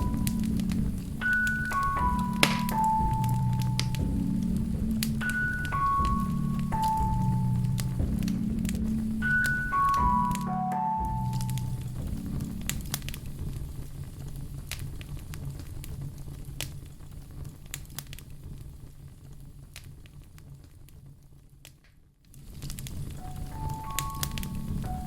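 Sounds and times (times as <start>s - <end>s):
low rumble of burning logs: 0.0s - 25.0s
wood fire crackling: 0.0s - 25.0s.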